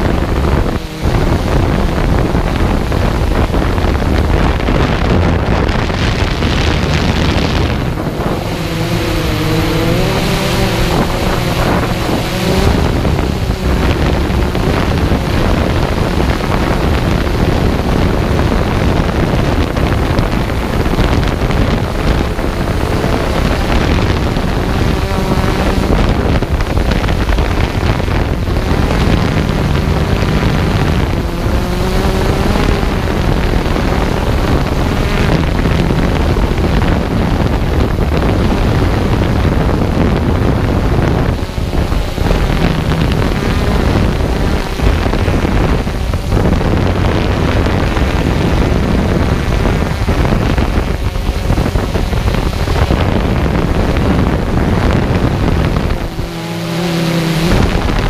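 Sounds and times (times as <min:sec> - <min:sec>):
drone propellers buzzing: 0:00.0 - 0:58.0
wind buffeting microphone: 0:00.0 - 0:58.0.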